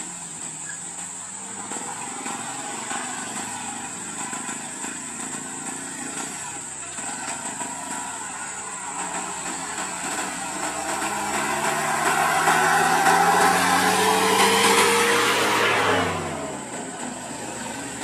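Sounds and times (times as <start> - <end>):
high-pitched whine: 0.0 - 18.0
vehicle engines running slowly: 0.0 - 18.0.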